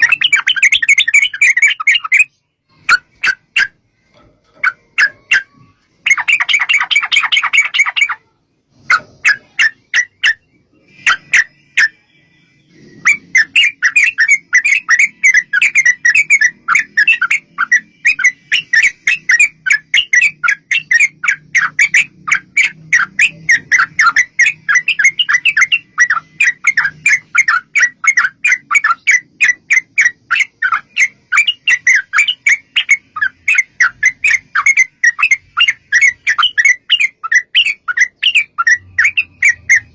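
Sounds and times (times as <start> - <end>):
bird singing fast chattering notes: 0.0 - 3.8, 4.5 - 39.9.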